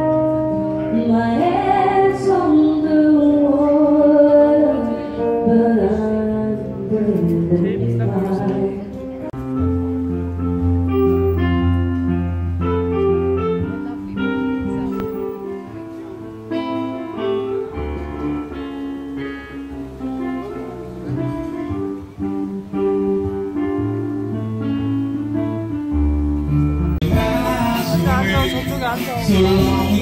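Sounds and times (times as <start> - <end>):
electronic keyboard playing: 0.0 - 30.0.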